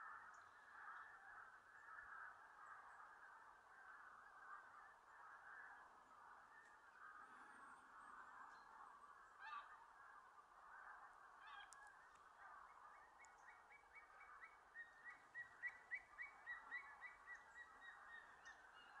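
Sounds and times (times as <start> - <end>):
distant geese honking: 0.0 - 19.0.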